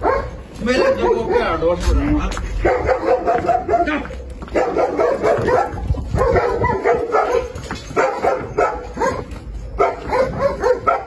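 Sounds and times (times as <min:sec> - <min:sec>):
barking and yelping calls: 0:00.0 - 0:11.0.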